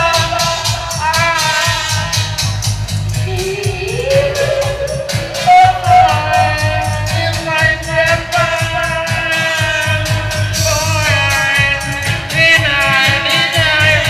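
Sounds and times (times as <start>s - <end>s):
dub reggae music: 0.0s - 14.0s
person singing: 0.0s - 14.0s.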